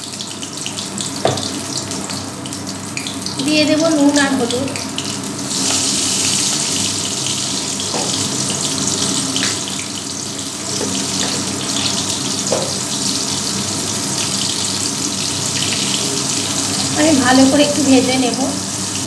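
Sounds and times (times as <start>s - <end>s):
vegetables sizzling in hot oil: 0.0s - 19.0s.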